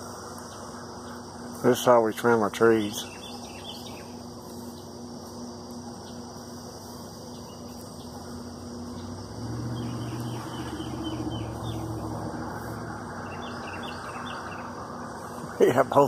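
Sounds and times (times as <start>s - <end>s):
birds chirping: 0.0s - 16.0s
vehicle engine hum: 3.1s - 16.0s.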